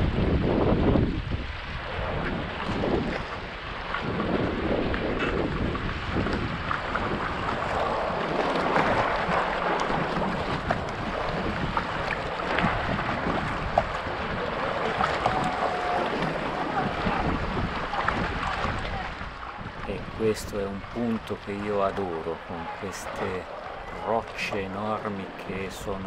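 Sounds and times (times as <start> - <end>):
water sloshing along hull: 0.0 - 26.0
wind rumble on microphone: 0.0 - 26.0
paddle blades splashing: 1.2 - 26.0.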